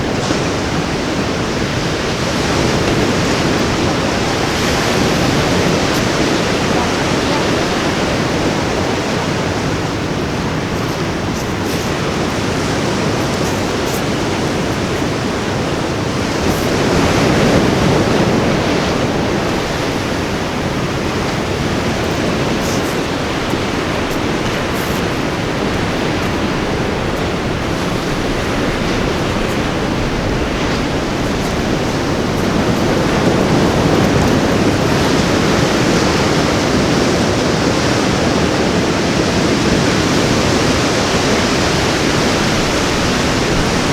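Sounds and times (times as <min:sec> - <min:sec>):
ocean surf washing onto beach: 0:00.0 - 0:43.9.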